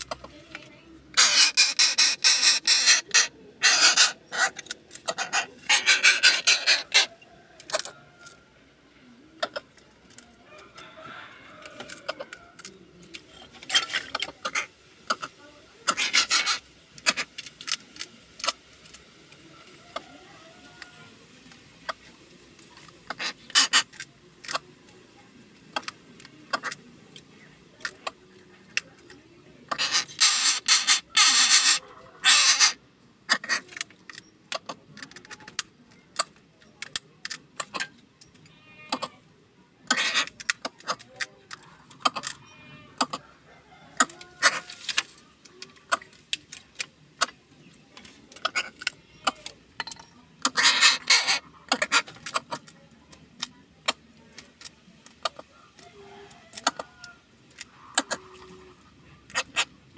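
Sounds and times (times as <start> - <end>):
beak scraping against shells: 0.0 - 8.5, 9.3 - 24.8, 25.6 - 59.9.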